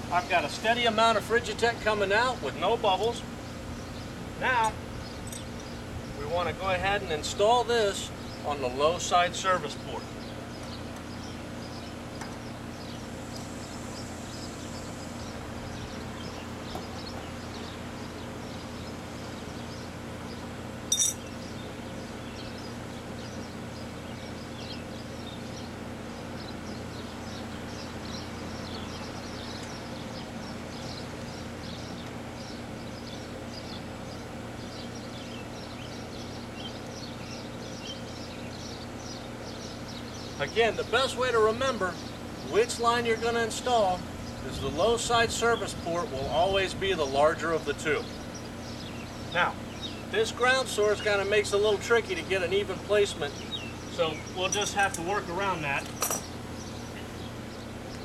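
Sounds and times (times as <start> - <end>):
air conditioner compressor hum: 0.0 - 58.0.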